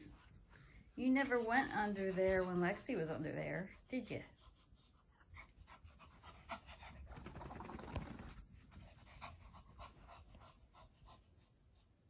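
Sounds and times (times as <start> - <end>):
dog panting quickly: 0.0 - 12.0.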